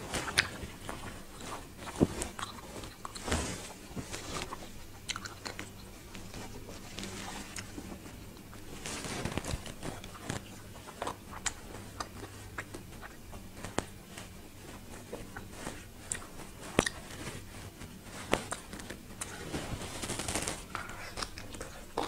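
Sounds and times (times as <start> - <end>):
close chewing and crunching: 0.0 - 22.0
faint low hum: 0.0 - 22.0.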